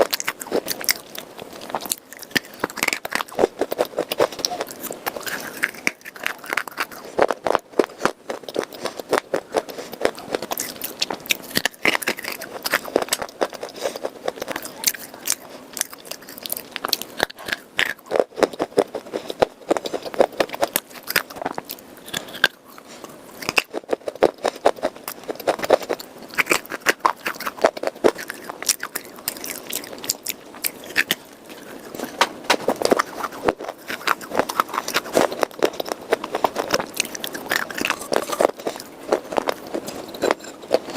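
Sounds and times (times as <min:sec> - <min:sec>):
crunching and chewing clay: 0:00.0 - 0:40.9.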